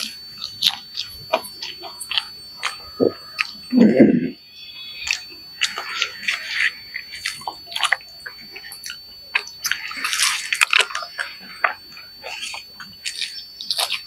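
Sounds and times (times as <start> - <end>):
man chewing and lip-smacking: 0.0 - 14.0.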